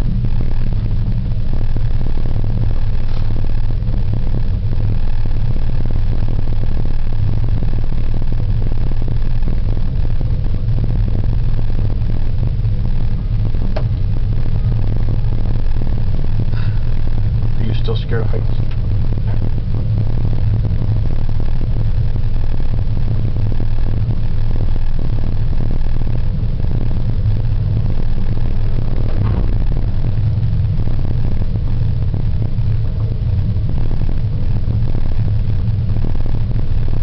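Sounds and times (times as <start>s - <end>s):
gondola cabin rumble: 0.0s - 37.0s.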